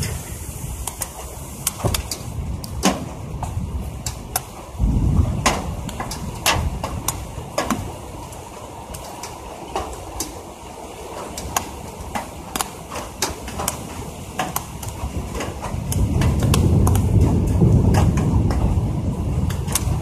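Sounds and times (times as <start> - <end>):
thunder rumble: 0.0 - 20.0
raindrops tapping: 0.8 - 20.0.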